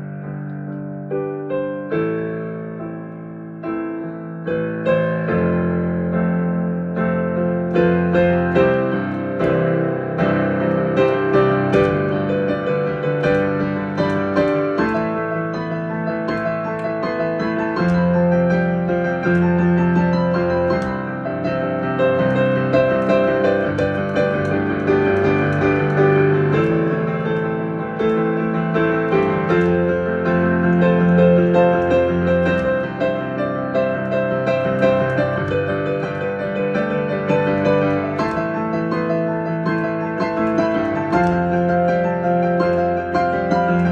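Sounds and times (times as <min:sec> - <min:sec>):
slow solo piano: 0:00.0 - 0:43.9.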